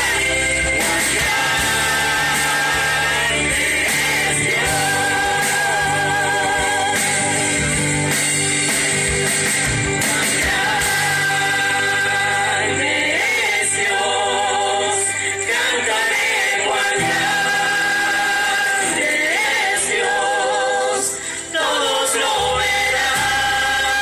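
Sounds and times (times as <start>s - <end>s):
gospel group singing: 0.0s - 24.0s
live band playing: 0.0s - 24.0s.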